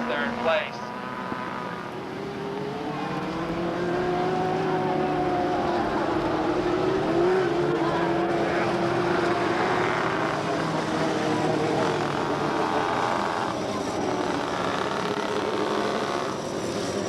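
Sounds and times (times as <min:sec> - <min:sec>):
race car engines buzzing: 0:00.0 - 0:17.0.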